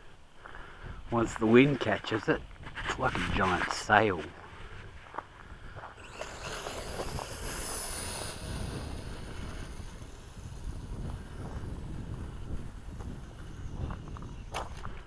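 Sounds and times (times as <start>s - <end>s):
wind rumble on microphone: 0.8s - 15.0s
drone propellers whining: 1.1s - 15.0s.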